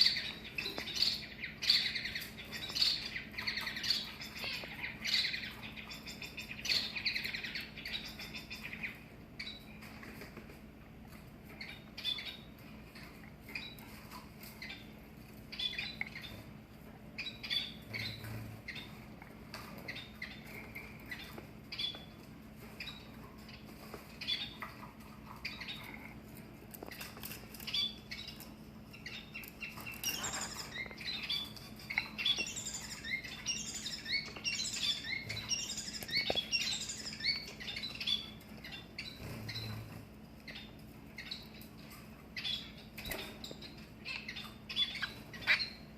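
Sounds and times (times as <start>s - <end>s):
bird courtship song: 0.0s - 45.9s
faint steady hum: 0.0s - 45.9s
finches chirping: 0.0s - 45.9s.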